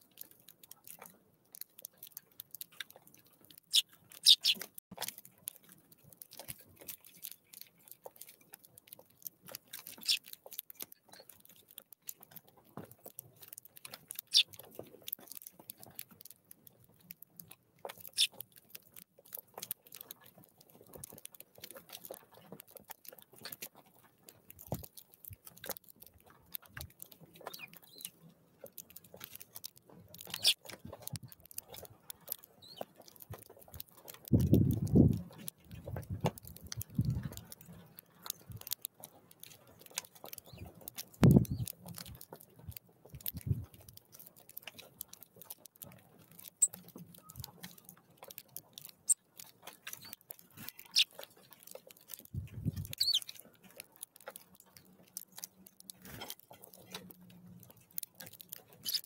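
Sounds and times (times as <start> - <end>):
birds pecking and cracking seed: 0.0 - 59.0.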